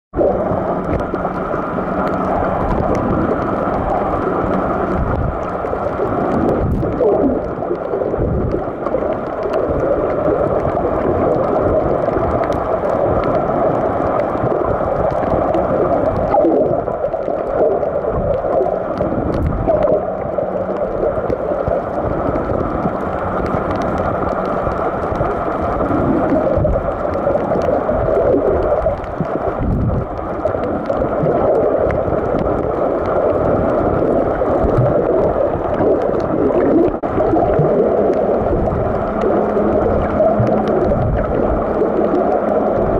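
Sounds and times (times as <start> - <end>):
underwater water rumble and gurgle: 0.1 - 42.9
faint underwater clicks: 0.2 - 42.9.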